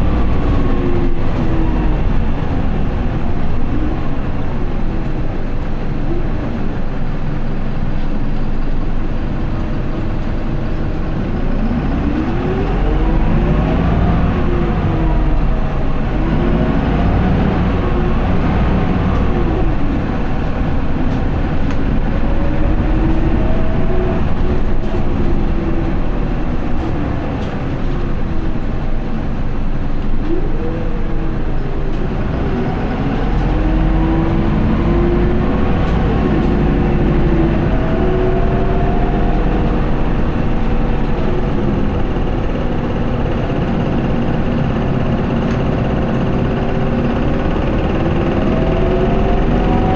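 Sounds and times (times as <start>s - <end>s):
bus diesel engine accelerating: 0.0s - 49.9s
drivetrain whine: 0.0s - 49.9s
road noise: 0.0s - 49.9s.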